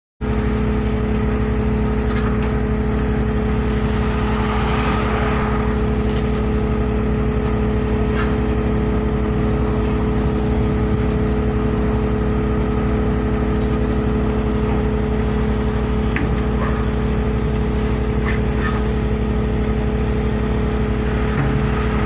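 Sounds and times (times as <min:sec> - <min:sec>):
diesel engine droning: 0:00.2 - 0:22.0.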